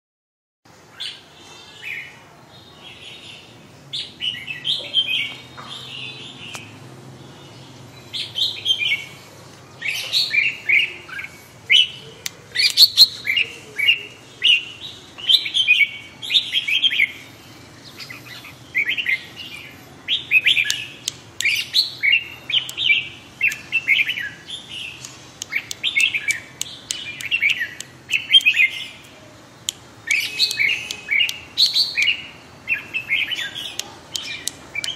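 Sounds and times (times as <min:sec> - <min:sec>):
bulbul singing: 0:01.0 - 0:34.9.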